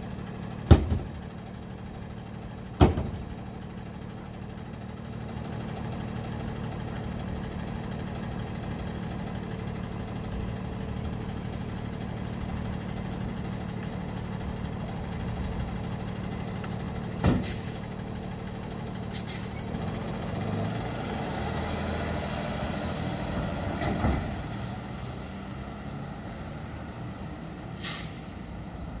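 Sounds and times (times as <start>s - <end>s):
garbage truck diesel engine: 0.0s - 29.0s.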